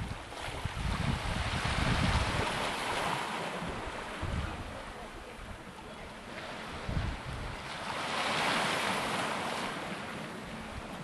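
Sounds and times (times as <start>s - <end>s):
wind buffeting microphone: 0.0s - 9.2s
surf washing on shore: 0.0s - 11.0s.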